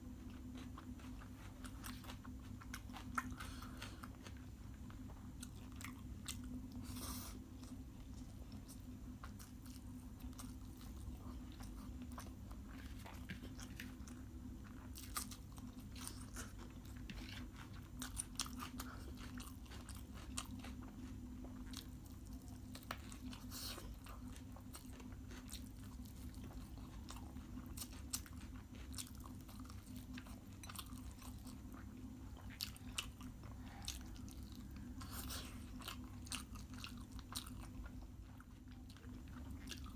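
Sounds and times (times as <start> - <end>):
person chewing food: 0.0 - 39.9
steady low hum: 0.0 - 39.9.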